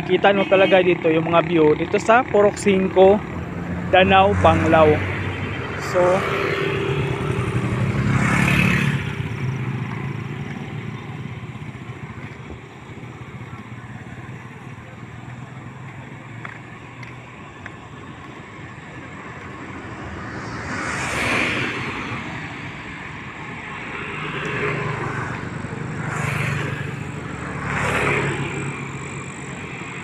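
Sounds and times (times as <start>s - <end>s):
steady low traffic rumble: 0.0s - 30.0s
vehicles passing by: 0.0s - 30.0s.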